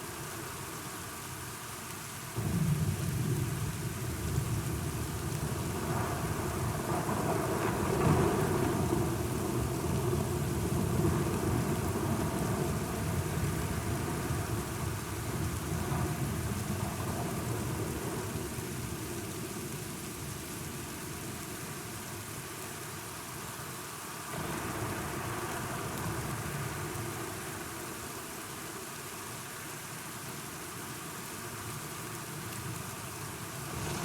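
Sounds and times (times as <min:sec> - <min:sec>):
rain: 0:00.0 - 0:34.0.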